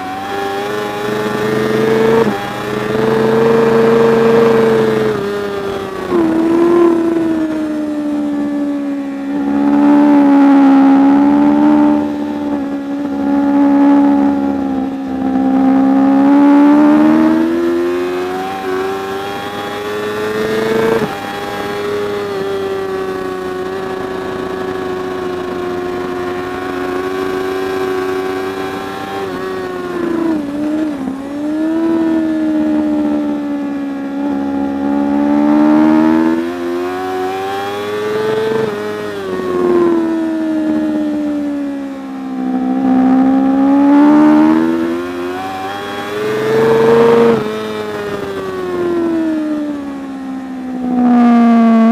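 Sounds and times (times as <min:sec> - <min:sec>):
racing motorcycle engine: 0:00.0 - 0:51.9.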